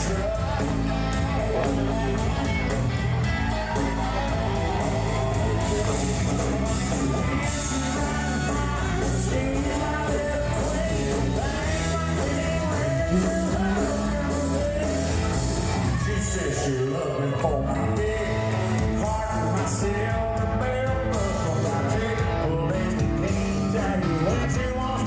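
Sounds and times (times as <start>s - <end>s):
country-rock band playing: 0.0s - 25.0s
person singing or shouting: 0.0s - 25.0s.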